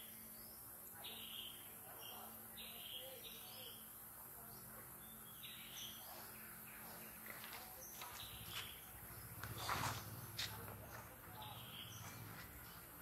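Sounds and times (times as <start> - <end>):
birds chirping: 0.0 - 13.0
low forest background: 0.0 - 13.0.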